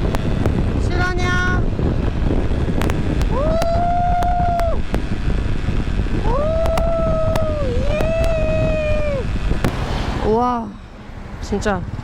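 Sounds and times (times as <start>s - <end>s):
motorcycle engine rumble: 0.0s - 12.0s
wind on microphone: 0.0s - 12.0s.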